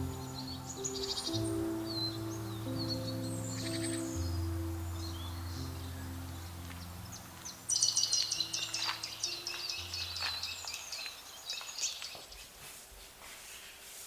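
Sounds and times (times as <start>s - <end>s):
soft background music: 0.0s - 11.4s
songbird twittering: 0.0s - 12.4s.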